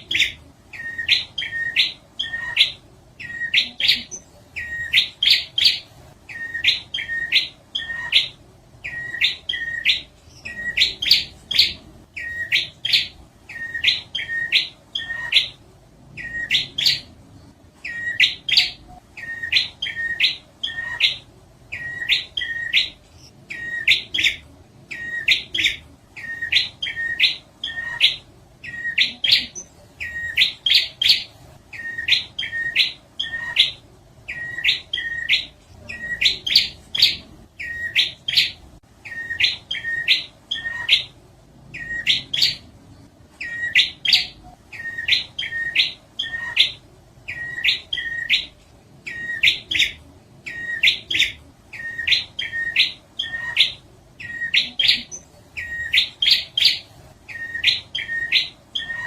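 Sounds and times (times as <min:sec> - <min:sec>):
bird song sharp upward notes: 0:00.0 - 0:59.0.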